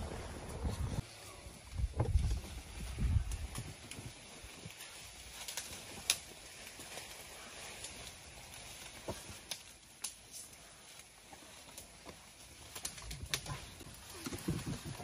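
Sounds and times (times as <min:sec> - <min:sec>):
snaps and rustles in undergrowth: 0:00.0 - 0:15.0.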